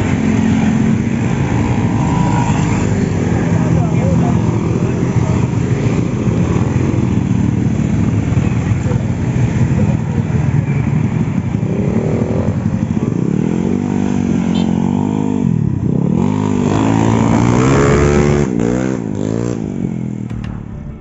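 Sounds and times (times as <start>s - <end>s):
motorcycles and scooters passing: 0.0s - 20.3s.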